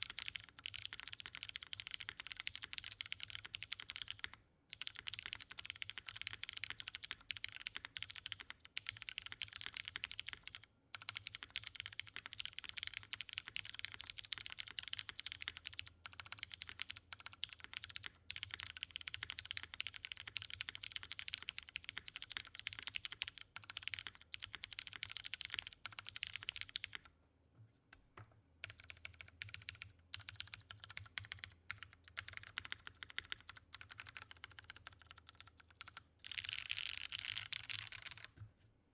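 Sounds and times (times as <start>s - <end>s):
mechanical keyboard typing: 0.0s - 27.1s, 28.6s - 38.4s.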